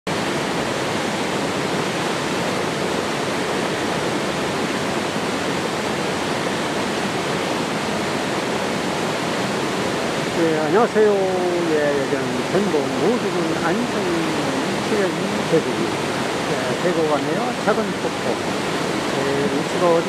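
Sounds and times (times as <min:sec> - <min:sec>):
waterfall rushing over rocks: 0:00.1 - 0:20.0.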